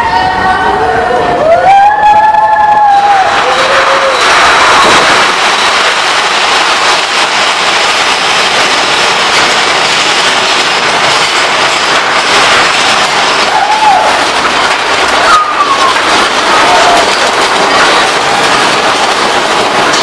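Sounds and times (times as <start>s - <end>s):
roller coaster cars rattling: 0.0s - 20.0s.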